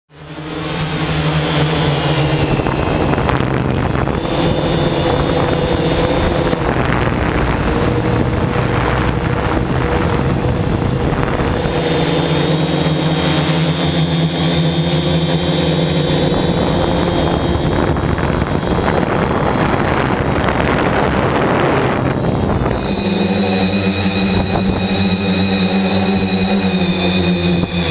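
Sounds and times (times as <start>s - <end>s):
drone motors and propellers: 0.1s - 27.9s.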